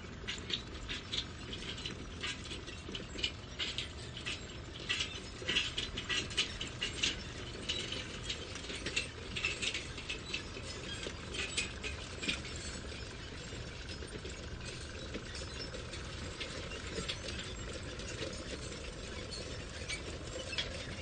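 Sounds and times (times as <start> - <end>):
low construction rumble: 0.0 - 21.0.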